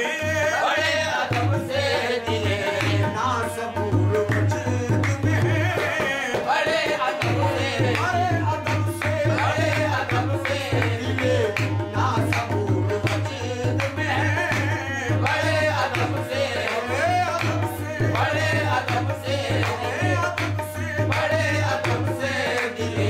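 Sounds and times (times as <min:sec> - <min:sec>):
accompanying voices singing: 0:00.0 - 0:23.0
harmonium: 0:00.0 - 0:23.0
tabla drumming: 0:00.0 - 0:23.0.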